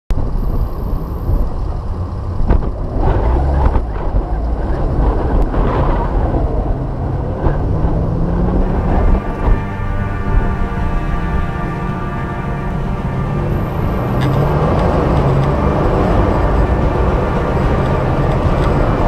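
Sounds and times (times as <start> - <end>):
off-road engine running: 0.1 - 19.0
wind buffeting microphone: 0.1 - 19.0.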